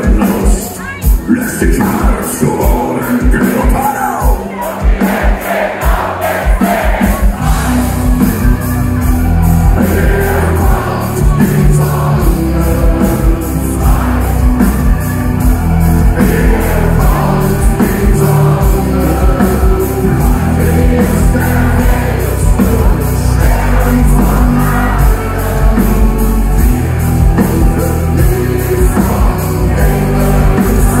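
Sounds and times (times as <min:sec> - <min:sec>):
heavy metal band playing: 0:00.0 - 0:31.0.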